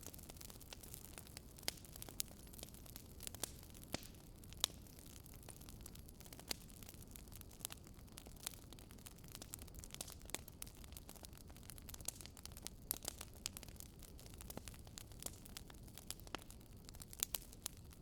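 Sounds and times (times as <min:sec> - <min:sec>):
firewood crackling in fireplace: 0:00.0 - 0:18.0.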